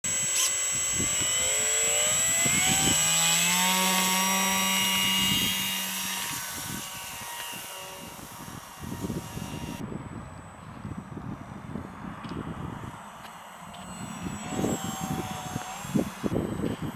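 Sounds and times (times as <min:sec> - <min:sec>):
electric motor and propeller whine: 0:00.0 - 0:16.9.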